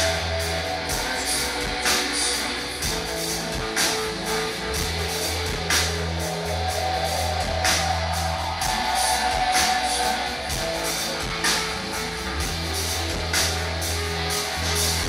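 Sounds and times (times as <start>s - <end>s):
bass line: 0.0s - 15.0s
distorted electric guitars: 0.0s - 15.0s
drums: 0.0s - 15.0s.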